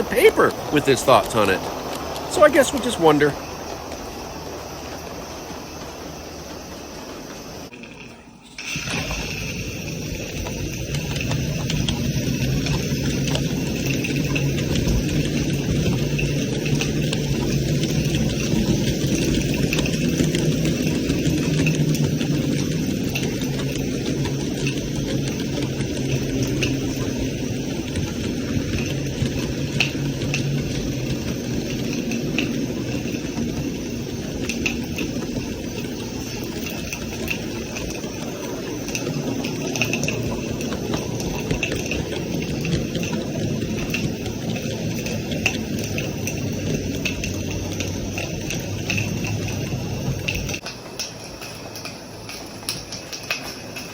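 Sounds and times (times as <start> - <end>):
steam hiss: 0.0 - 7.7, 8.4 - 47.5
model locomotive running noise: 0.0 - 53.9.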